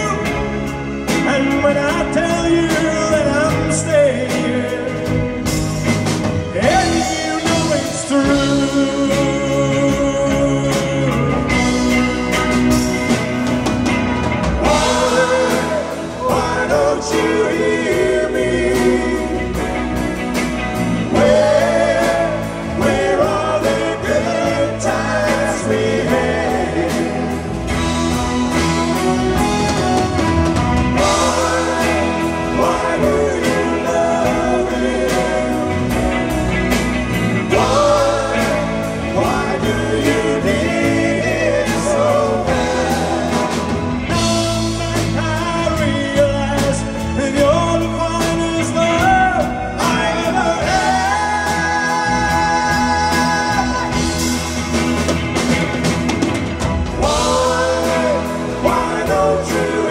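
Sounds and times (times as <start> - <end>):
live pop band playing: 0.0 - 59.9
person singing: 6.2 - 13.2, 14.4 - 36.4, 37.2 - 54.8, 56.9 - 59.9.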